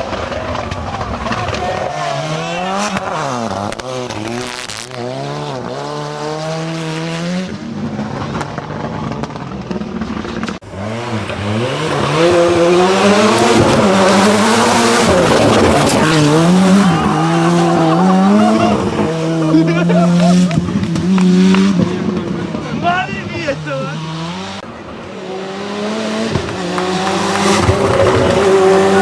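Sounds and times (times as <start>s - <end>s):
rally car engine revving hard: 0.0s - 29.0s.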